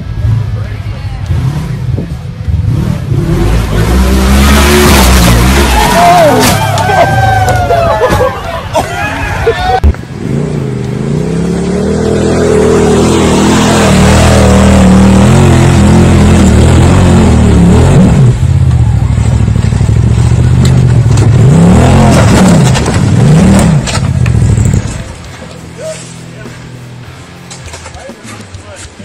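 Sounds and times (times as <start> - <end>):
utility vehicle engine revving: 0.0 - 8.3, 9.8 - 28.0.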